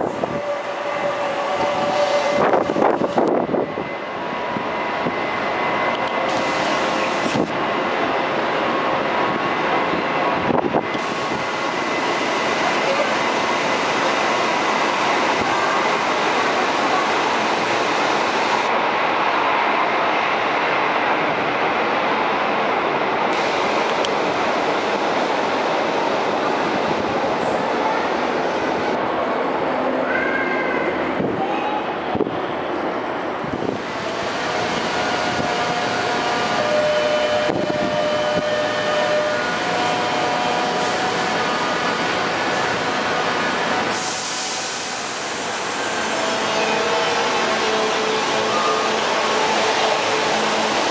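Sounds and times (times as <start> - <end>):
train rolling rumble: 0.0 - 50.9.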